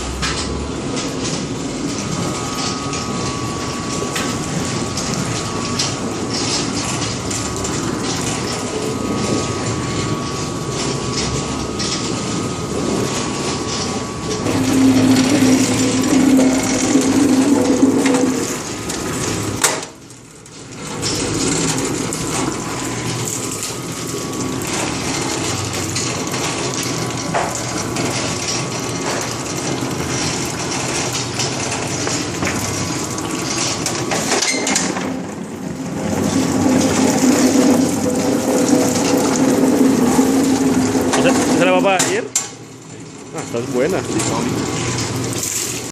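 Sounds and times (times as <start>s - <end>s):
washing machine water rushing: 0.0s - 45.9s.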